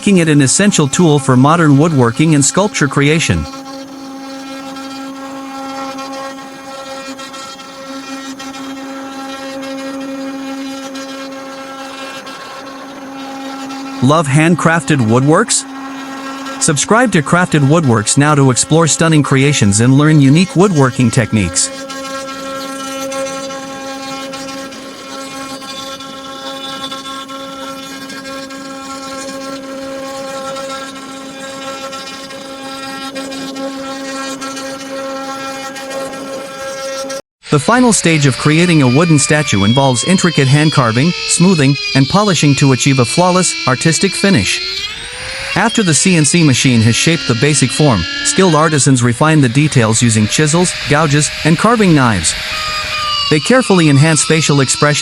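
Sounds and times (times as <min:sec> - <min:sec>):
router spindle motor cutting wood: 0:00.0 - 0:55.0.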